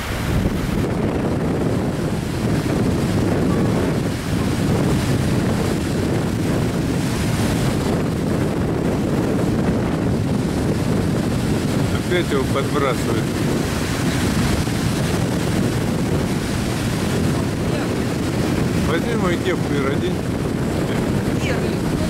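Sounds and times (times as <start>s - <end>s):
choppy sea waves: 0.0s - 22.0s
wind buffeting microphone: 0.0s - 22.0s.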